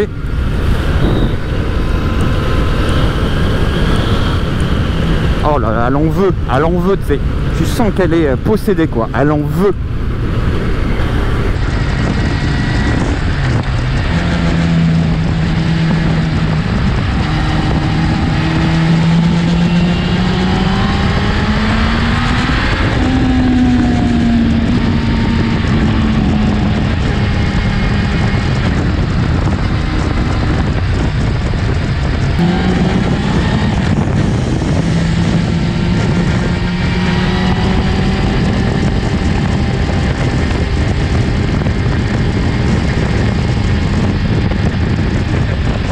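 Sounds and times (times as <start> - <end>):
motorcycle engine running: 0.0 - 6.5, 9.6 - 45.9
wind and road noise: 0.0 - 45.9.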